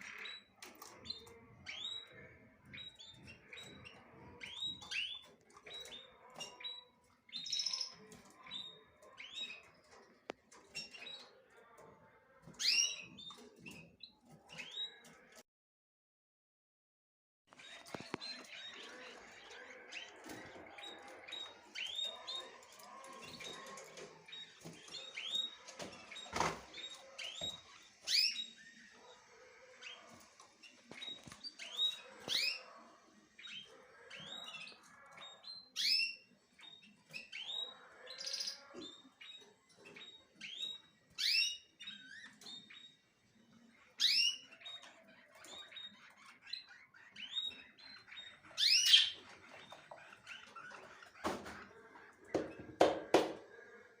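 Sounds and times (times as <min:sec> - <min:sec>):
small birds chirping: 0:00.0 - 0:15.4, 0:17.5 - 0:54.0.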